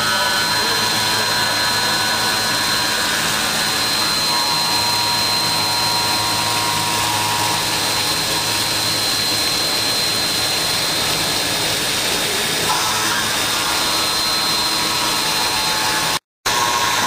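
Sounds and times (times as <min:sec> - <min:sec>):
machine whining: 0:00.0 - 0:17.0.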